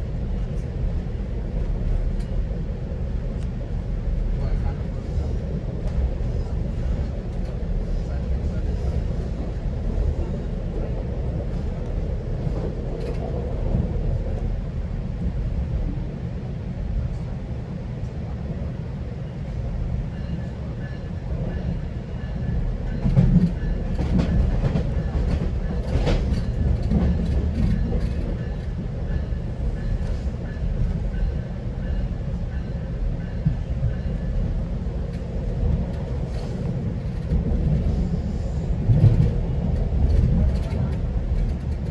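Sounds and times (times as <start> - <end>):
train low rumble: 0.0 - 41.9.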